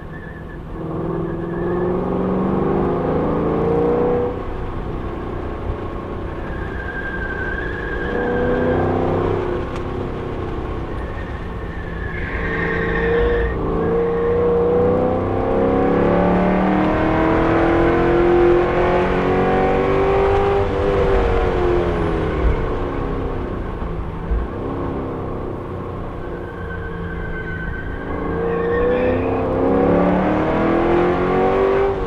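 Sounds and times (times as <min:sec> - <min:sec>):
car engine accelerating: 0:00.0 - 0:32.0
road and wind noise: 0:00.0 - 0:32.0.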